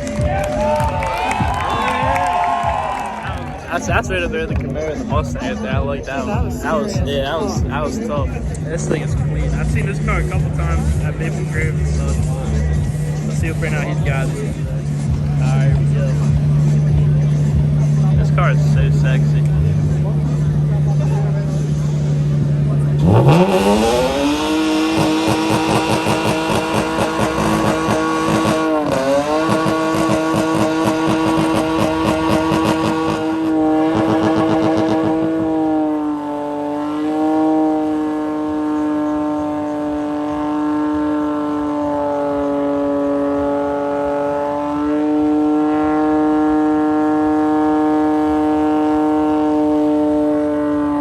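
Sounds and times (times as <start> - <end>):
car engine revving at limiter: 1.4 - 51.0.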